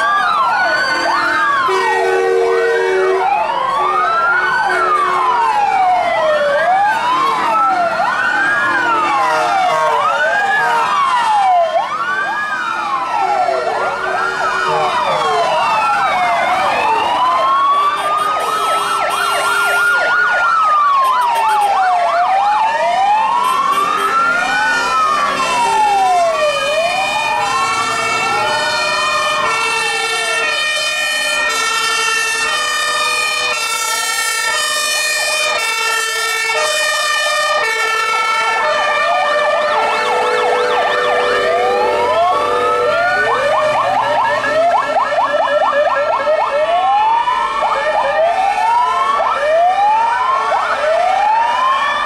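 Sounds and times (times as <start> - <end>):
two-tone sirens: 0.0 - 52.0
wailing fire truck sirens: 0.0 - 52.0.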